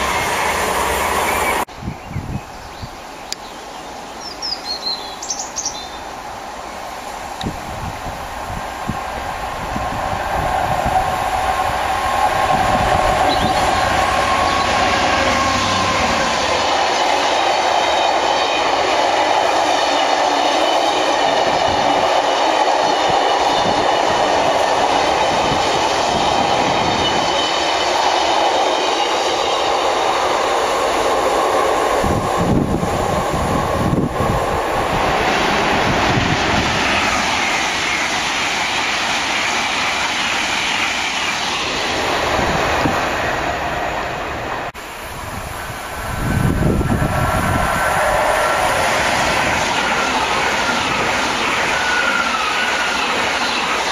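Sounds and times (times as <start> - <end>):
freight train rolling past: 0.0 - 2.4, 3.8 - 53.9
approaching electric train: 0.0 - 53.9.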